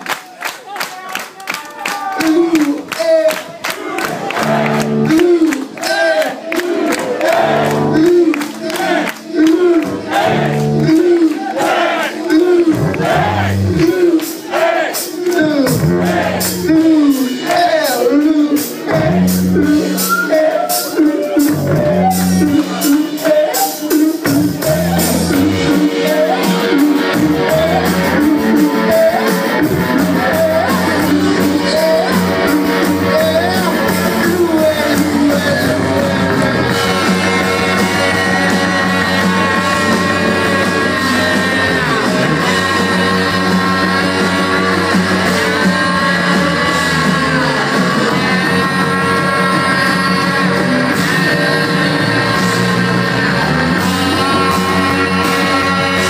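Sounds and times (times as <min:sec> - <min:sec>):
drums: 0:01.1 - 0:56.0
electric guitars: 0:03.6 - 0:14.4, 0:15.0 - 0:56.0
person singing: 0:04.3 - 0:56.0.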